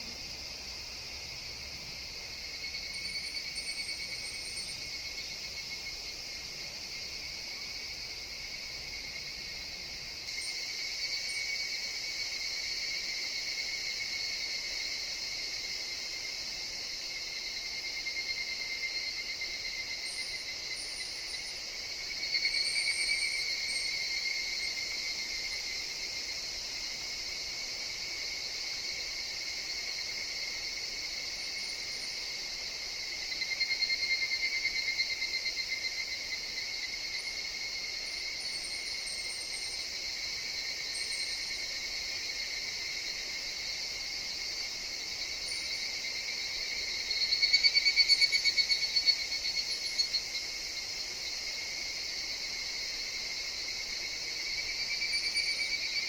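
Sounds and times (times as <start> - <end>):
cicada chorus: 0.0 - 56.0.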